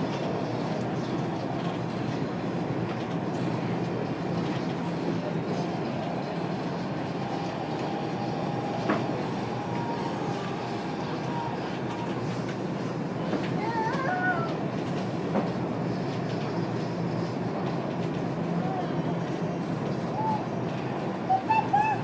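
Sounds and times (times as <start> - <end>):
train wheels and motors rumbling: 0.0 - 22.0.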